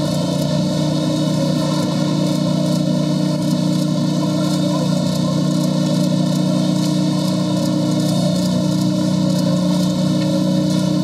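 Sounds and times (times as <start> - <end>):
low drone of exhibition hall: 0.0 - 11.0.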